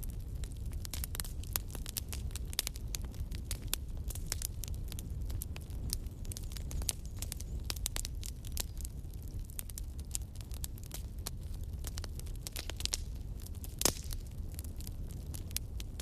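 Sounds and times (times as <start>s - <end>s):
low rumble of flame: 0.0s - 16.0s
wood fire crackling: 0.0s - 16.0s.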